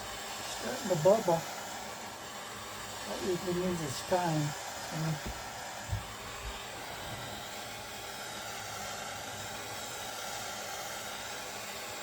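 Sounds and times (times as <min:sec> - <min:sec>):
heat gun blowing hot air: 0:00.0 - 0:12.0.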